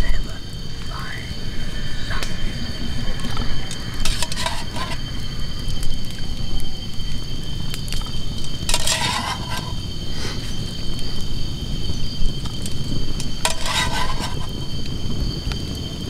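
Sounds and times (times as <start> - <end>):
campfire crackling: 0.0 - 16.0
insects trilling: 0.0 - 16.0.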